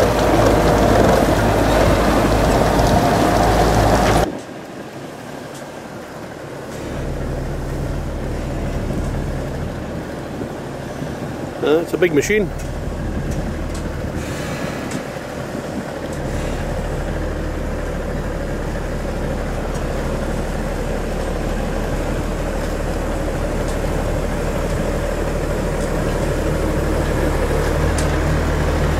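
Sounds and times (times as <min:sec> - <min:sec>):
tractor diesel engine droning: 0:00.0 - 0:28.9.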